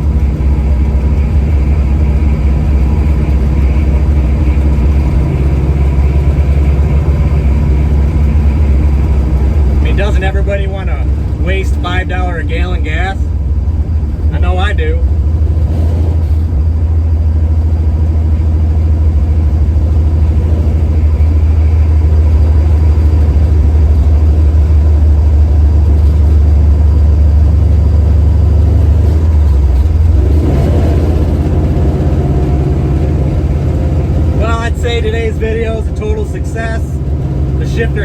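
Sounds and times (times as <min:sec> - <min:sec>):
car engine and exhaust drone: 0:00.0 - 0:38.0.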